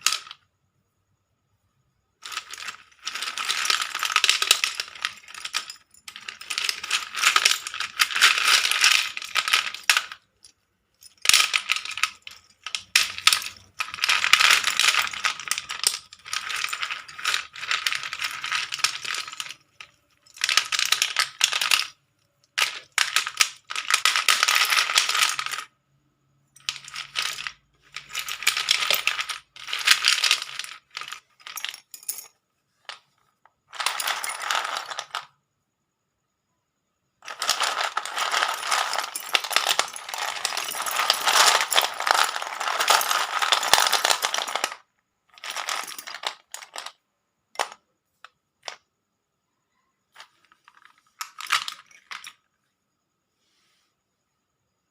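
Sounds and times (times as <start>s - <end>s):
slate pencils clattering: 0.0s - 0.4s, 2.2s - 25.8s, 26.5s - 35.4s, 37.2s - 48.8s, 50.1s - 52.5s.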